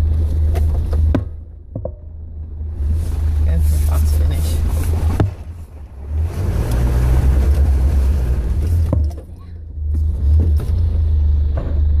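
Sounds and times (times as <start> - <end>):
vehicle engine running low: 0.0 - 12.0.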